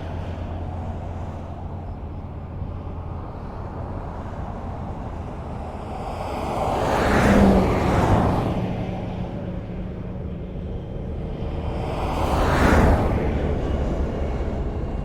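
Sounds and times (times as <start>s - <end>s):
highway road noise rumble: 0.0s - 15.0s
vehicles passing: 0.0s - 15.0s.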